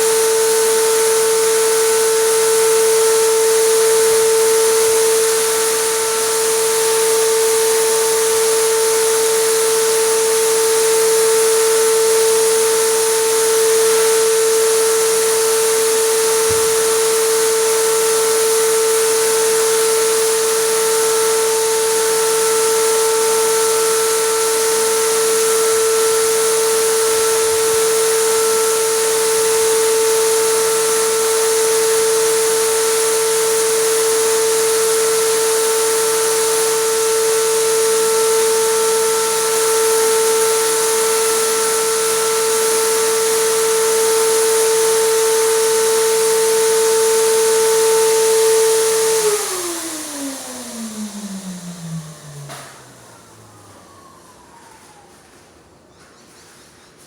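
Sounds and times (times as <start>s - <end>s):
air compressor whining: 0.0s - 57.0s.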